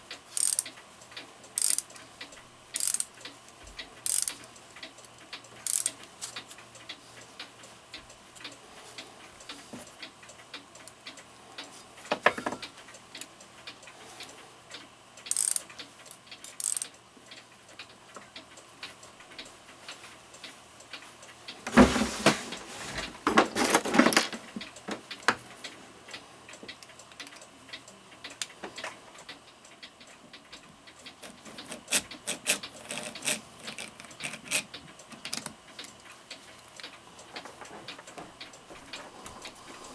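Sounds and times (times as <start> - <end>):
small metallic clicks: 0.0 - 21.4, 23.5 - 39.9.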